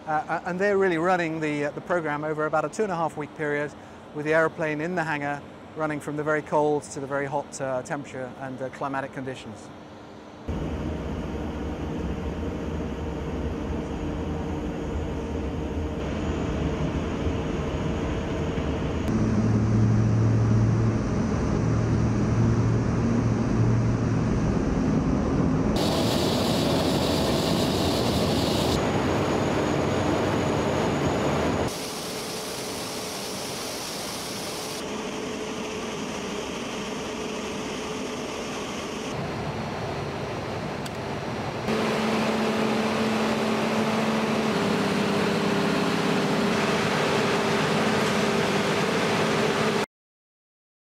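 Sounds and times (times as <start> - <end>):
machinery hum: 0.0 - 49.8.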